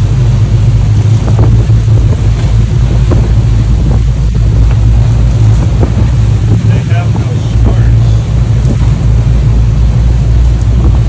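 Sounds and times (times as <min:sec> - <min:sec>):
boat engines droning: 0:00.0 - 0:11.0
sea washing around hull: 0:00.0 - 0:11.0
wind buffeting microphone: 0:00.0 - 0:11.0.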